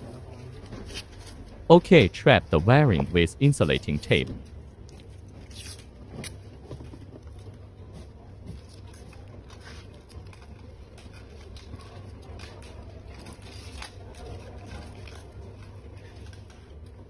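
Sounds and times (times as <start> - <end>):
steady low hum: 0.0 - 17.0
tape and wires crackling: 0.0 - 17.0.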